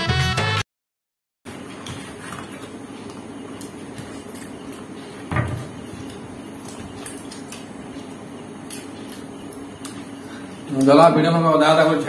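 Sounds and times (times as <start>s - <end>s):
steady low hum: 1.5s - 12.0s.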